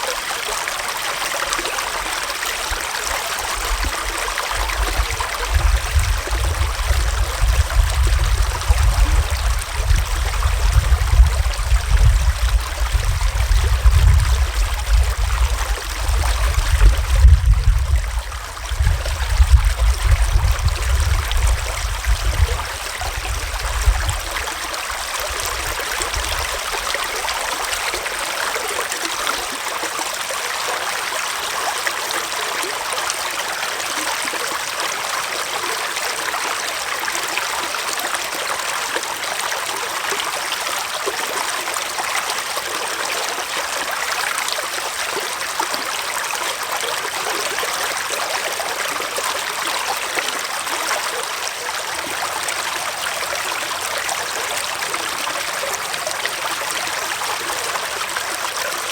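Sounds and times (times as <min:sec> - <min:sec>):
stream water flowing: 0:00.0 - 0:58.9.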